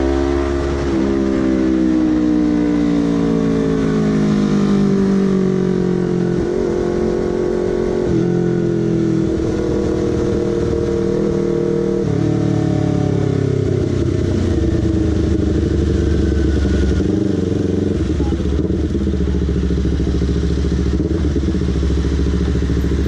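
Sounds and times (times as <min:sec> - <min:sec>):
motorcycle engine and exhaust: 0:00.0 - 0:23.0.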